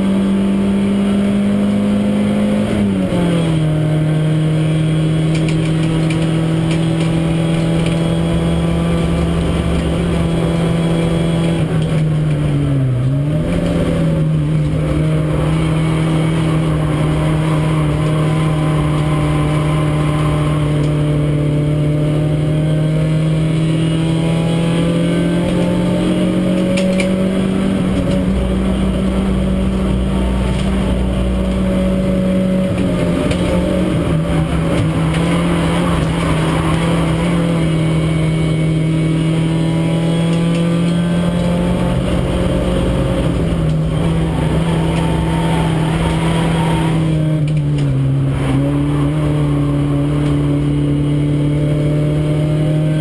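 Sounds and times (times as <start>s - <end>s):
race car engine revving high: 0.0s - 53.0s.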